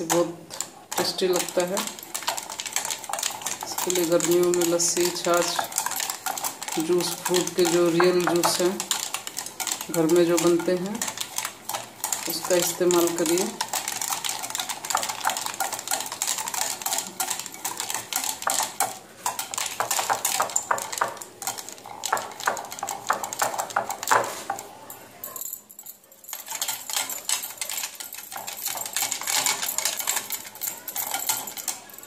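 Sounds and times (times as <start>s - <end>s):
wire whisk clattering in bowl: 0.0s - 32.0s.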